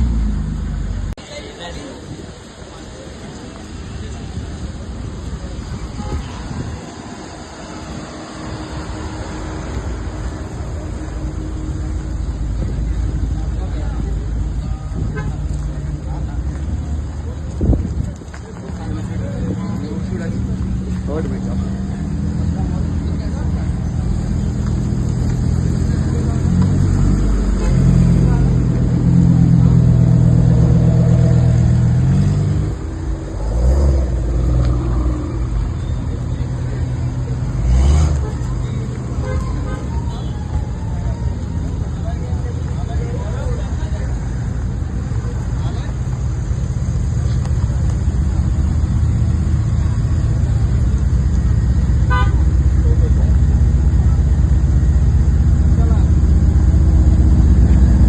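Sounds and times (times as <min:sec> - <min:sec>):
car engine humming: 0:00.0 - 0:58.0
road noise: 0:00.0 - 0:58.0.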